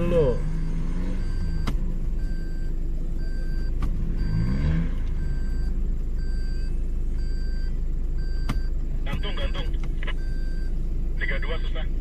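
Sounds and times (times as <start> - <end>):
vehicle engine revving: 0.0 - 12.0
reversing beeper: 0.2 - 11.4.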